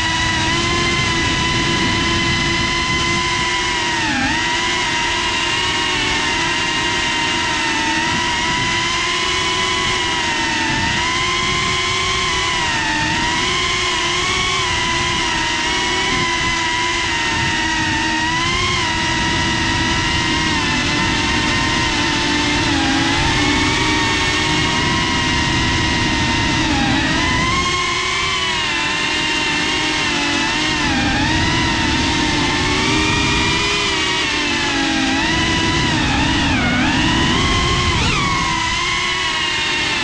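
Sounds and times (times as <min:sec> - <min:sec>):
drone motors whining: 0:00.0 - 0:40.0.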